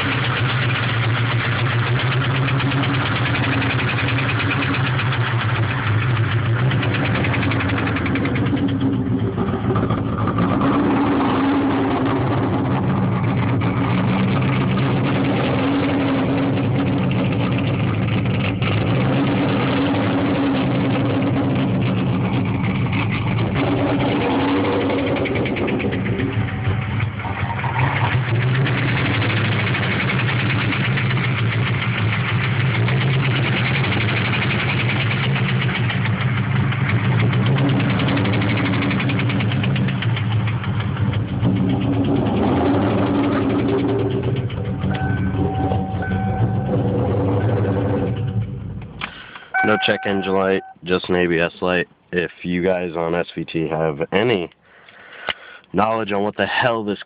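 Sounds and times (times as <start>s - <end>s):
engine idling with knock: 0.0s - 10.9s, 11.7s - 50.6s.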